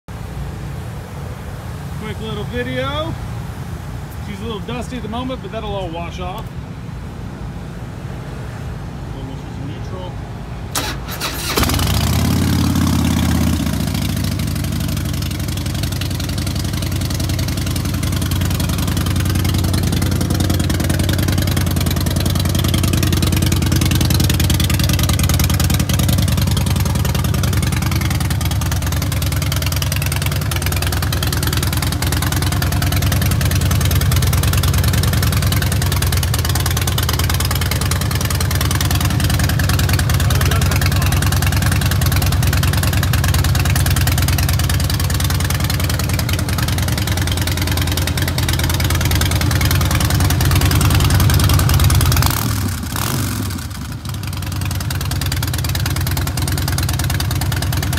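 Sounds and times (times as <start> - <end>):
motorcycle engine idling: 10.8 - 57.9.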